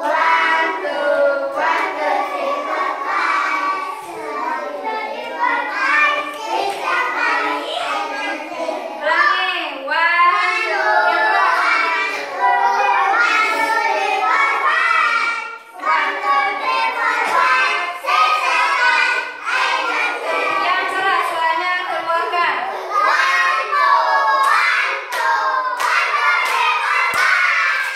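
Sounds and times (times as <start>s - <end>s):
children singing: 0.0s - 27.9s.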